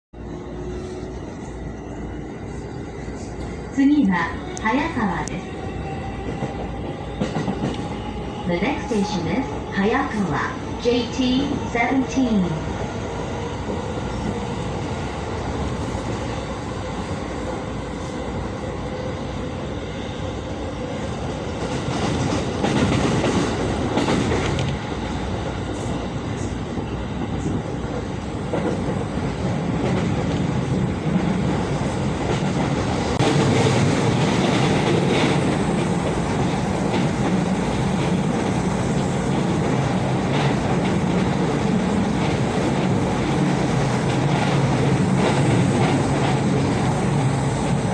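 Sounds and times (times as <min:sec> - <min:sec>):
train wheels rumbling on rail: 0:00.2 - 0:47.9.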